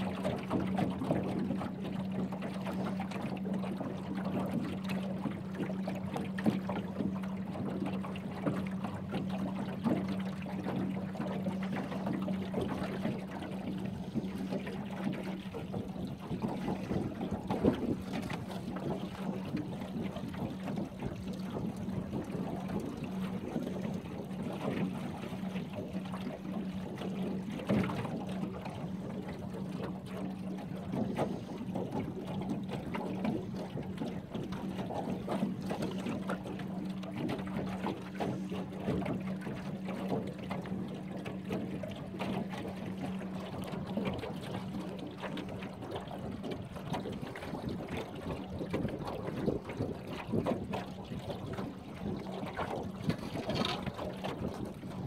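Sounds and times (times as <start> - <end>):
boat motor humming: 0.0 - 55.0
water lapping against hull: 0.0 - 55.0.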